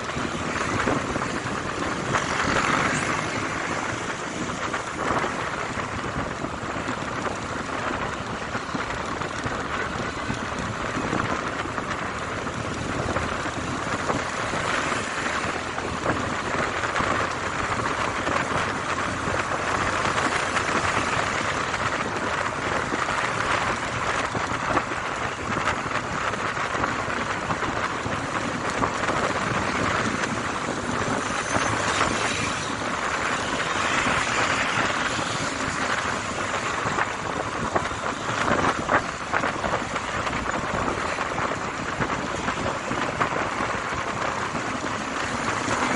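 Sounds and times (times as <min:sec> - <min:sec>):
motorcycle road and engine noise: 0:00.0 - 0:45.9
wind rushing over microphone: 0:00.0 - 0:45.9.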